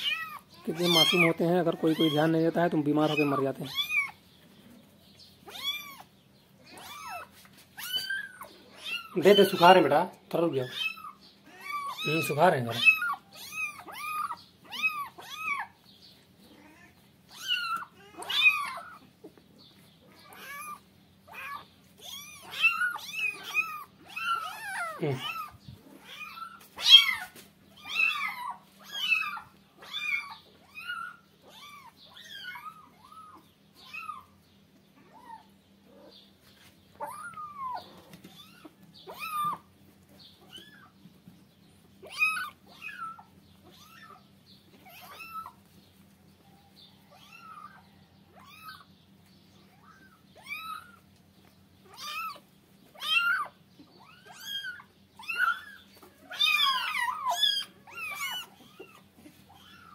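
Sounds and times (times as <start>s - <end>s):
kittens mewing: 0.0s - 4.3s, 5.4s - 19.4s, 20.0s - 36.2s, 36.9s - 45.8s, 47.0s - 49.0s, 49.6s - 51.2s, 51.8s - 59.9s.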